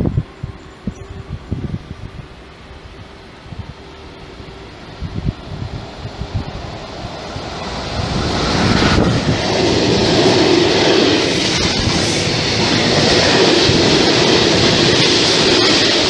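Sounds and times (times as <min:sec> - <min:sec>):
electric locomotive passing: 0:00.0 - 0:16.0.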